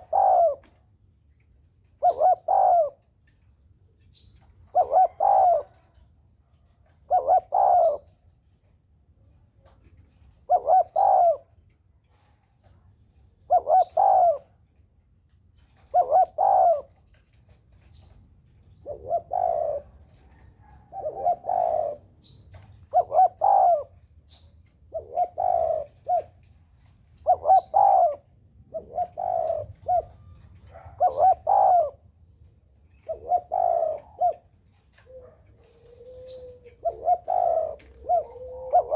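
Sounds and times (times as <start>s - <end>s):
dove cooing: 0.0s - 1.2s, 1.8s - 3.4s, 4.2s - 8.3s, 9.6s - 14.8s, 15.6s - 38.9s
sunbird chirping: 0.0s - 38.9s.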